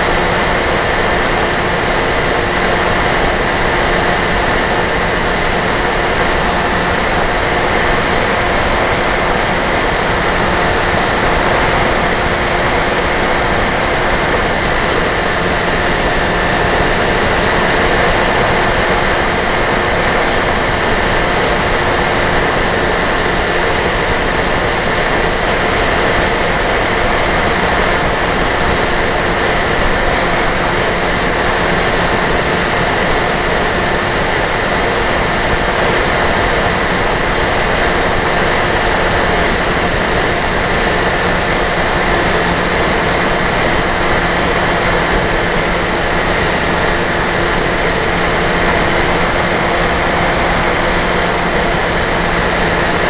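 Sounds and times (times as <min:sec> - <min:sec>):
electric motor and propeller: 0:00.0 - 0:53.0.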